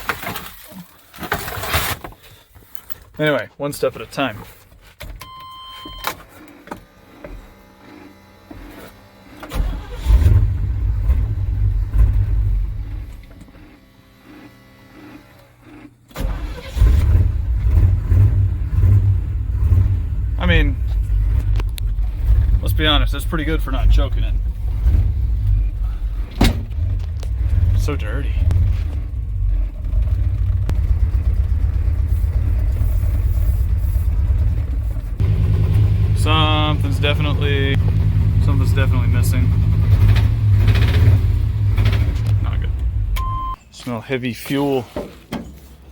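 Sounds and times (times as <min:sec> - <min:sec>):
pickup engine starting and running: 0:04.9 - 0:43.6.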